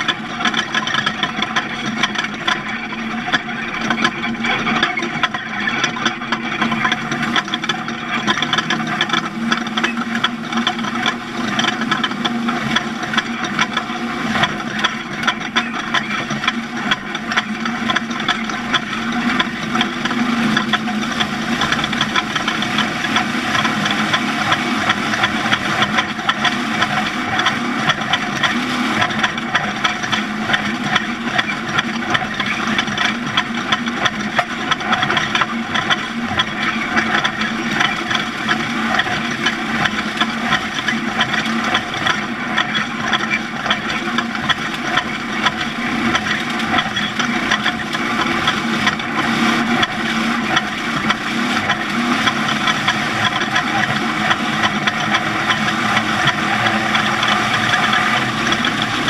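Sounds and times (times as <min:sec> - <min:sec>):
rattles over rough ground: 0:00.0 - 0:59.0
vehicle engine running: 0:00.0 - 0:59.0.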